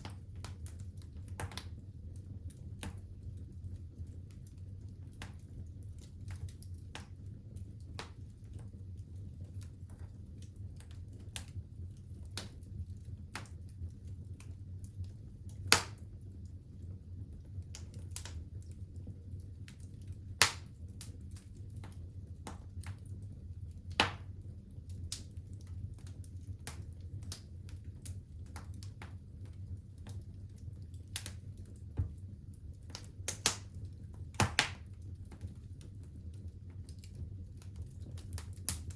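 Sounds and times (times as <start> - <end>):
flames rumbling: 0.0 - 38.9
wood fire crackling: 0.0 - 38.9.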